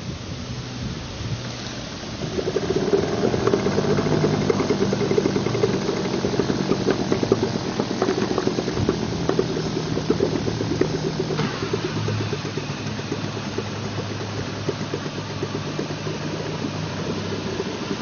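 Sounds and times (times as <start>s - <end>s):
outboard motor running: 1.5s - 18.0s.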